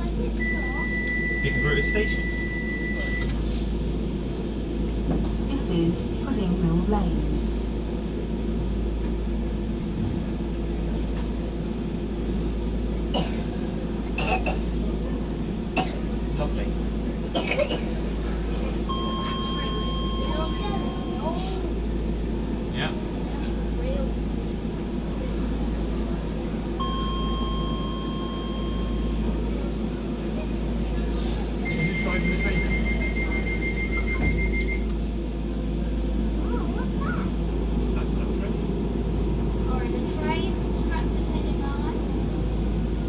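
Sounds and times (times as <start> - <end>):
train interior low hum: 0.0 - 43.0.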